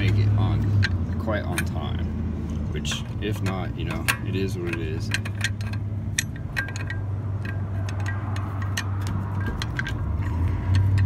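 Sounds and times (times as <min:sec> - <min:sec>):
low vehicle hum: 0:00.0 - 0:11.0
lug wrench clinking on nut: 0:00.0 - 0:11.0.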